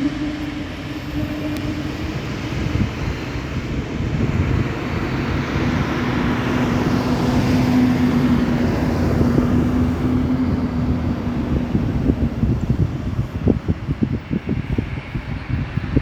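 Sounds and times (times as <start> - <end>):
airplane engine rush: 0.0 - 16.0.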